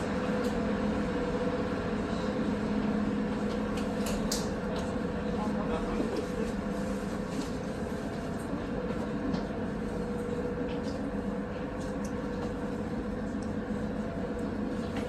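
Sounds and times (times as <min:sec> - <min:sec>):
ferry engine droning: 0:00.0 - 0:15.0.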